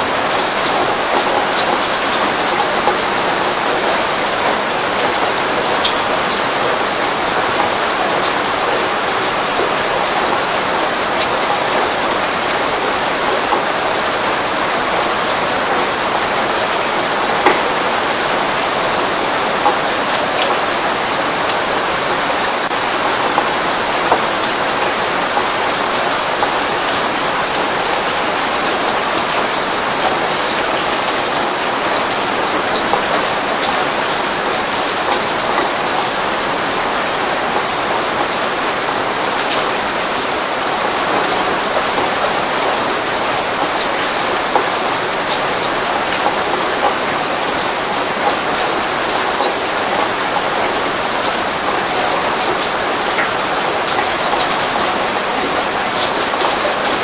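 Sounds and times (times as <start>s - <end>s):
heavy rain falling: 0.0s - 57.0s
sharp ticks of raindrops: 0.0s - 57.0s.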